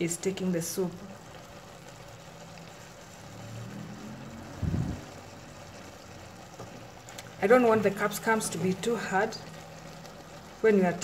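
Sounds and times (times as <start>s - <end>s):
soup simmering in a pot: 0.0s - 11.0s.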